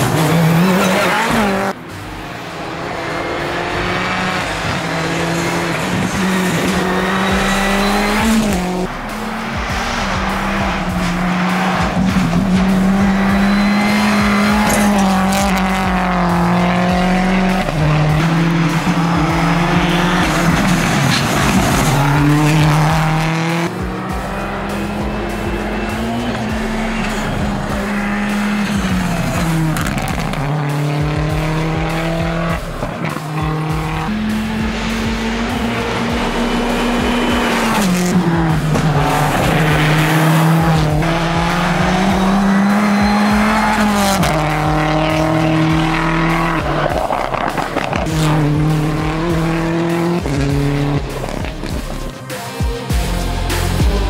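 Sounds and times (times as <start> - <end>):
car engine revving hard: 0.0 - 52.2
tyre noise: 2.8 - 52.8.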